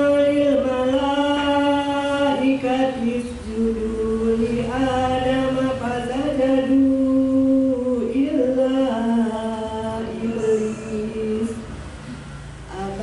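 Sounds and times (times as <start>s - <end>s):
woman chanting melodically: 0.0s - 11.9s, 12.6s - 13.0s.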